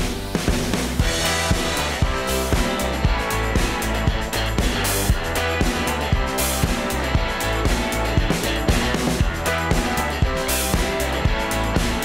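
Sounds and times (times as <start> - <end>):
music with steady drum beat: 0.0 - 12.0.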